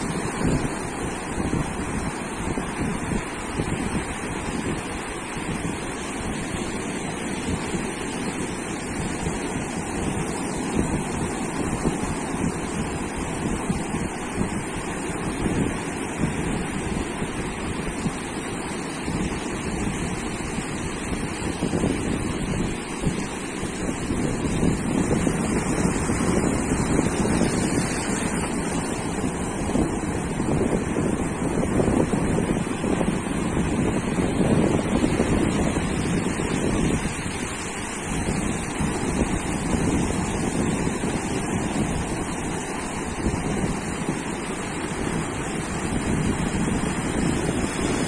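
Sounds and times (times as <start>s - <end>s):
surf breaking on a beach: 0.0s - 48.0s
wind buffeting the microphone: 0.0s - 48.0s.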